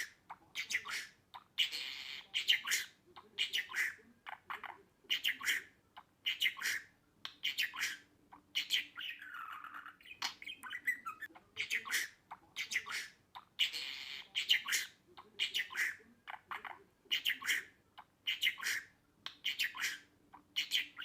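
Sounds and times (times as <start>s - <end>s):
scratchy bird calls: 0.0s - 5.7s, 6.3s - 21.0s
budgerigar chirping: 0.0s - 21.0s.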